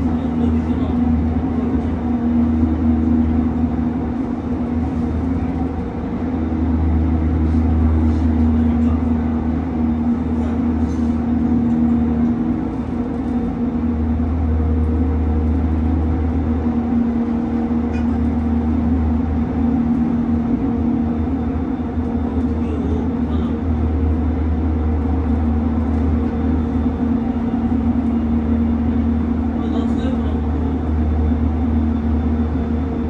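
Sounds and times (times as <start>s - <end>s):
constant hum: 0.0s - 33.0s
train interior rumble: 0.0s - 33.0s.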